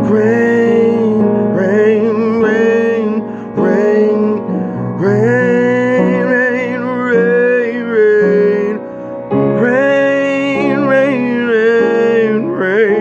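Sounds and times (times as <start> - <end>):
person singing gospel: 0.0 - 13.0
piano accompaniment: 0.0 - 13.0.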